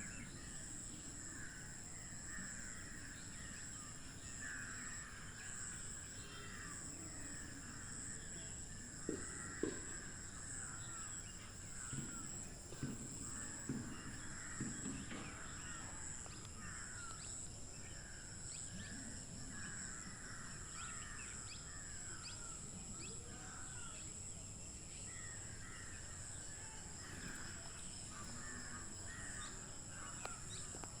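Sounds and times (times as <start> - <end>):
birds chattering and cawing: 0.0 - 31.0.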